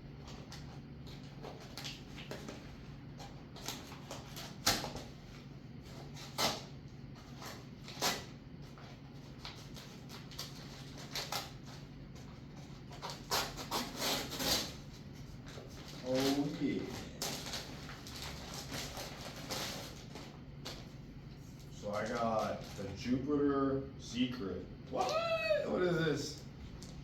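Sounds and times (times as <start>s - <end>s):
steady low hum: 0.0s - 27.0s
packaging rustling and scraping: 0.2s - 20.9s, 21.5s - 23.0s.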